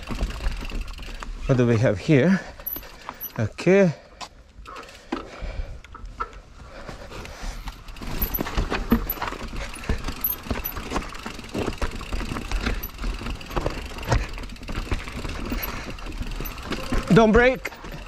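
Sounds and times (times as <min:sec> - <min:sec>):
bike clicks and rattles: 0:00.0 - 0:18.0.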